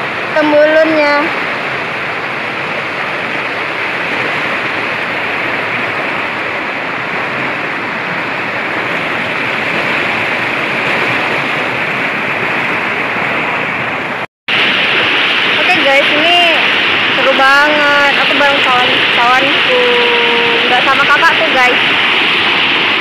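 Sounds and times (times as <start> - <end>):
stream rushing over boulders: 0.0 - 23.0.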